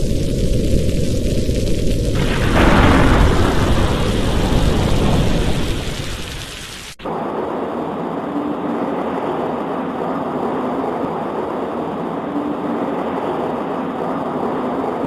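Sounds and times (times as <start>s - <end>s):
rain on a window: 0.0s - 15.0s.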